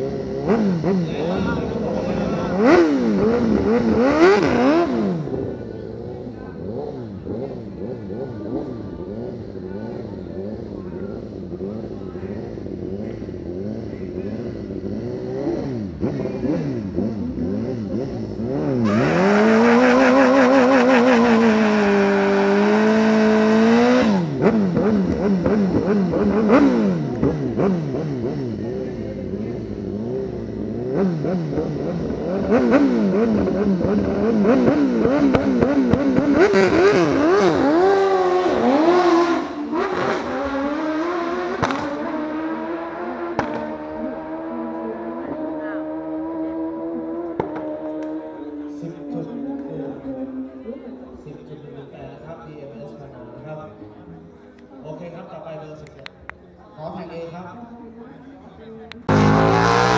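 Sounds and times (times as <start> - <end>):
motorcycle engine revving: 0.0 - 51.2, 59.0 - 59.9.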